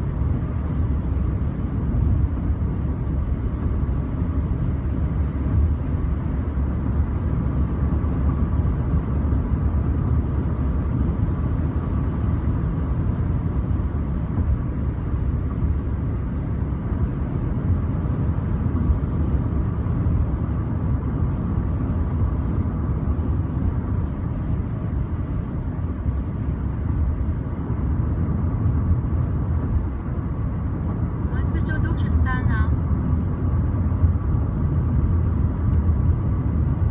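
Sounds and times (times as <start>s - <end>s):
car road and engine noise: 0.0s - 36.9s.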